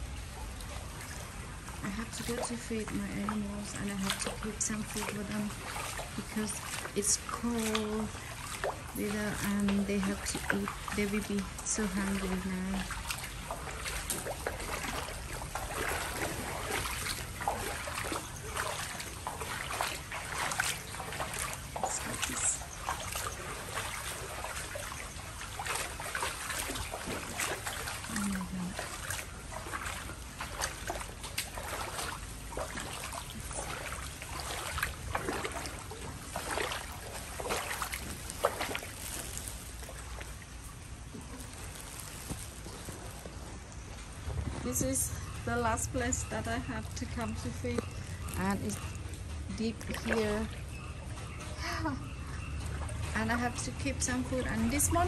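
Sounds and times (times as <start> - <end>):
footsteps splashing in water: 0.0 - 55.0
light rain on water: 0.0 - 55.0.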